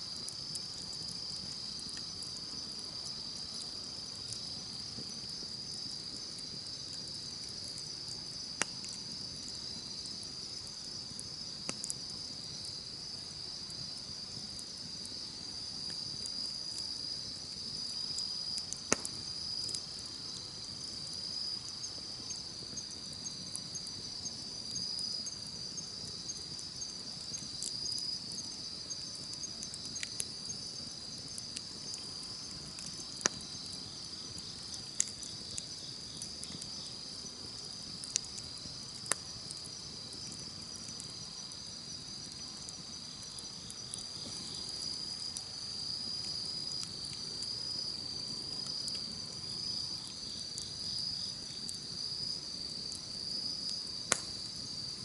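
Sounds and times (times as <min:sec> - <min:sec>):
campfire hissing and crackling: 0:00.0 - 0:55.0
insects chirring: 0:00.0 - 0:55.0.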